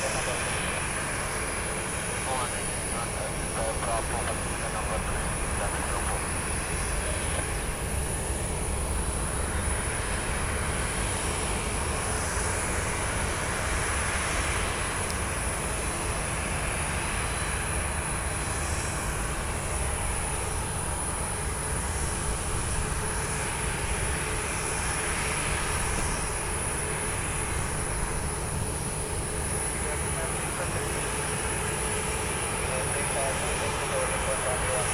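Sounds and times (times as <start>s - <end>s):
aircraft engine rumble and whine: 0.0s - 34.9s.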